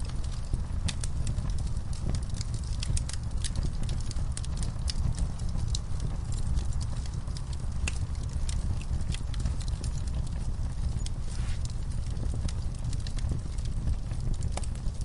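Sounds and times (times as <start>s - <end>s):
burning wood crackling and popping: 0.0s - 15.0s
fire flames rumbling: 0.0s - 15.0s.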